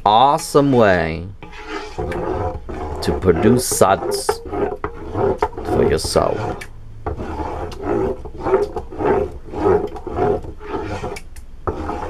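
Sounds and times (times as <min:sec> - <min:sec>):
wooden spoon stirring in a pot: 0:00.0 - 0:12.0.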